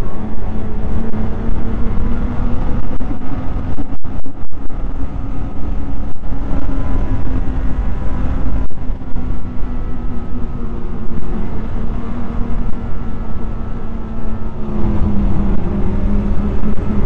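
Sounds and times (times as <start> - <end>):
heavy low rumble: 0.0 - 17.0
snowmobile engine running: 0.0 - 17.0.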